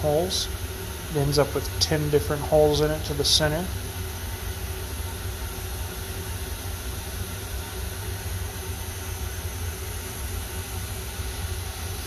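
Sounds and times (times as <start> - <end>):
machine humming with hiss: 0.0 - 12.0.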